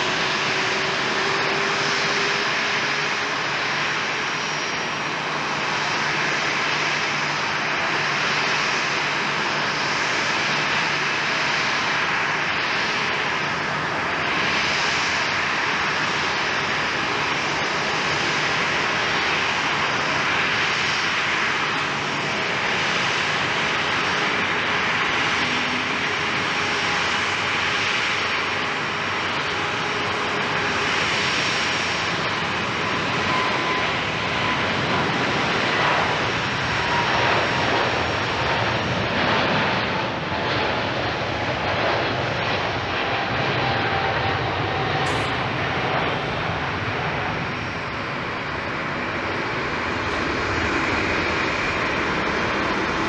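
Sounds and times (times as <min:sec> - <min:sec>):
faint jet whine: 0:00.0 - 0:53.0
jet engines roaring on takeoff: 0:00.0 - 0:53.0.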